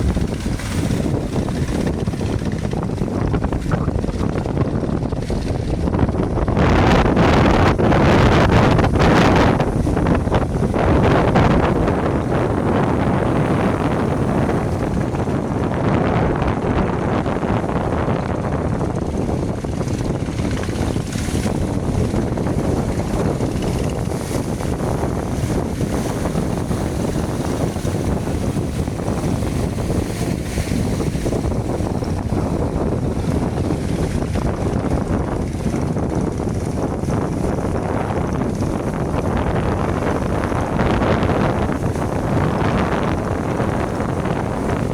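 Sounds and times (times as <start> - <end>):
boat engines rumbling: 0.0 - 44.9
sea noise: 0.0 - 44.9
wind buffeting microphone: 0.0 - 44.9.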